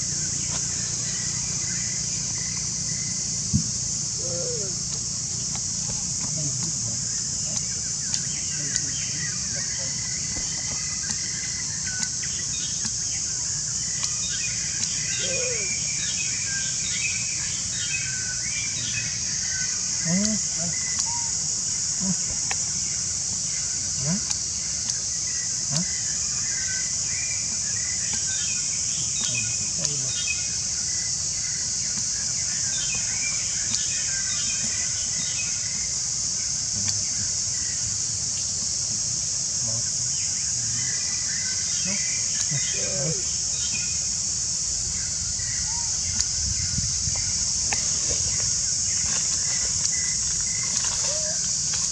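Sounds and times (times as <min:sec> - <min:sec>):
insect chorus drone: 0:00.0 - 0:51.9
small birds chirping: 0:00.0 - 0:51.9.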